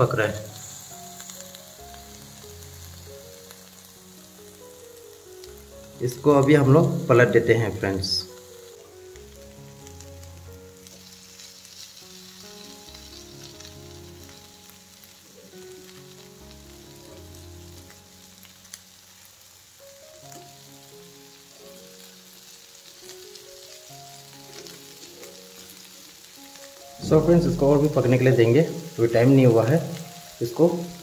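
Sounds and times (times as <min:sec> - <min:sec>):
patties sizzling in oil: 0:00.0 - 0:31.0
soft background music: 0:00.0 - 0:31.0.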